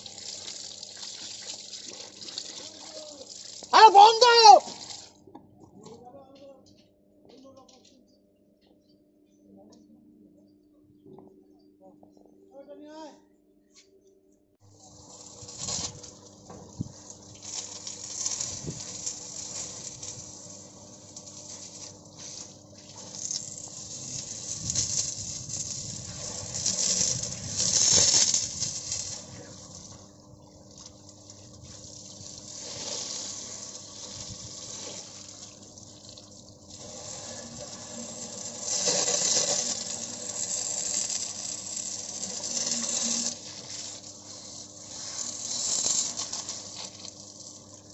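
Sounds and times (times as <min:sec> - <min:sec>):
oil gushing and splashing: 0:00.0 - 0:05.2, 0:14.7 - 0:47.9.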